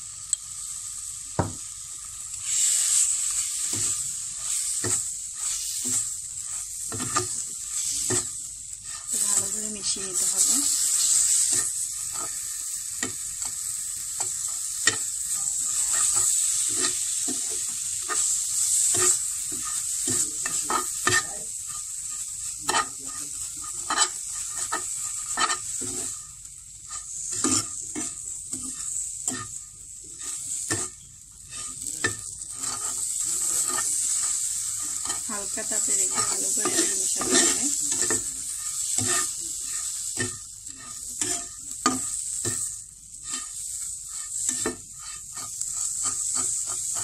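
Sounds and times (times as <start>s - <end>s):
food sizzling in a frying pan: 0.0s - 47.0s
metal spatula scraping pan: 2.4s - 47.0s.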